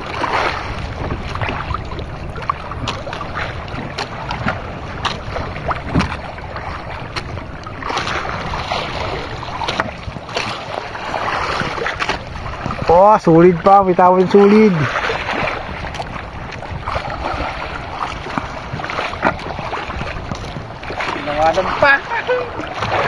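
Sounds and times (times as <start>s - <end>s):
waves washing against boat: 0.0s - 23.0s
wind buffeting microphone: 0.0s - 23.0s.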